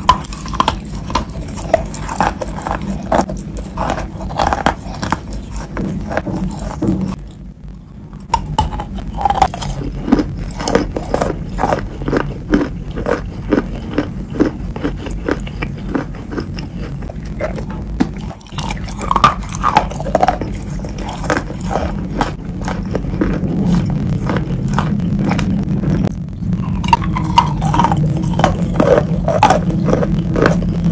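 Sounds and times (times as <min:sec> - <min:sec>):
chewing crisp crunches: 0:00.0 - 0:07.4, 0:08.2 - 0:30.9.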